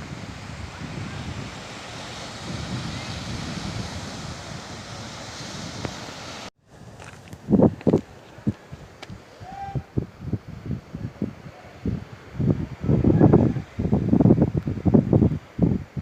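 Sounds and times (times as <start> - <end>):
wind rushing on microphone: 0.0 - 16.0.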